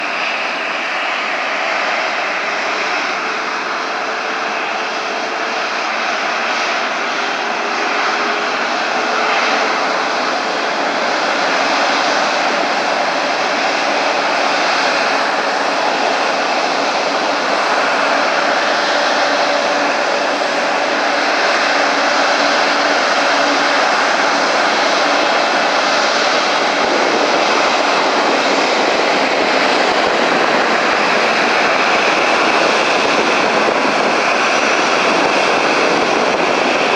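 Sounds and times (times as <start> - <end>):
jet engines idling: 0.0 - 36.9.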